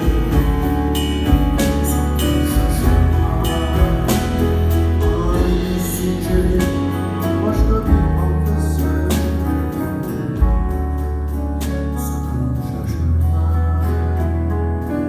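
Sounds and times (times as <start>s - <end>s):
man singing: 0.0s - 10.4s, 11.6s - 14.2s
acoustic guitar strummed: 0.0s - 15.0s
double bass low notes: 0.0s - 15.0s.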